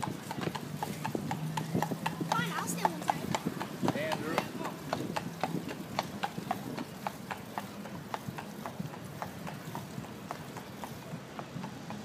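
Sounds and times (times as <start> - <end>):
horse hooves clopping on pavement: 0.0 - 12.0.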